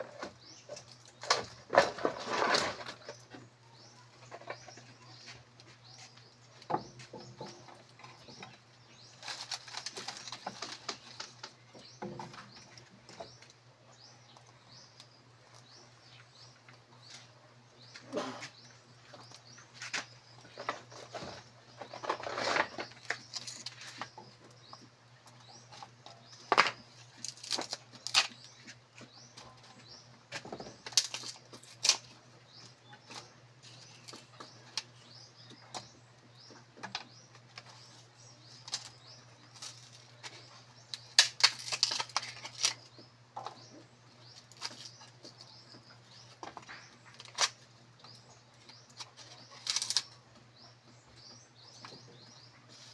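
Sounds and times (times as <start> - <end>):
dry firewood snapping and knocking: 0.1 - 5.0, 6.6 - 17.2, 17.8 - 37.8, 38.5 - 50.2.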